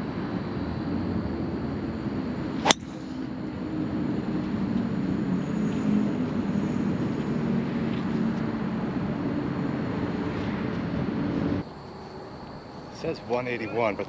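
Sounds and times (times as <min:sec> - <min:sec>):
engine drone: 0:00.0 - 0:11.6.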